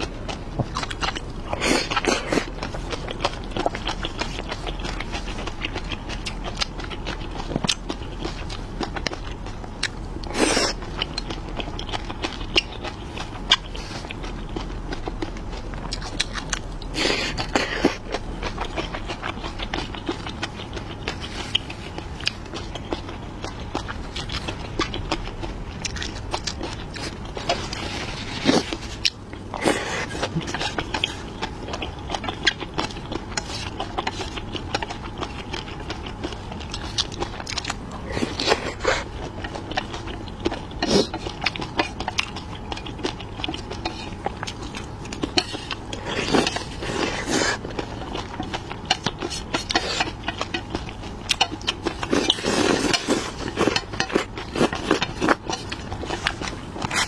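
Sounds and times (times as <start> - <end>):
wet chewing and biting: 0.0 - 57.0.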